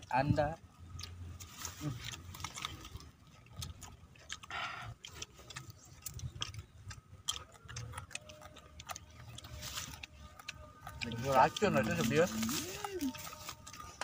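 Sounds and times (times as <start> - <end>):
raw vegetables crunching: 0.0 - 14.0.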